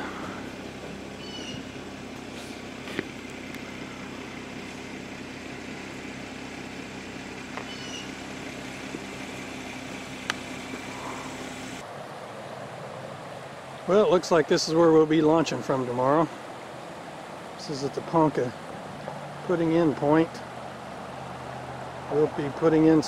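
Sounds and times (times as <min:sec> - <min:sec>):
river water rushing: 0:00.0 - 0:23.0
vehicle engine idling: 0:00.0 - 0:23.0.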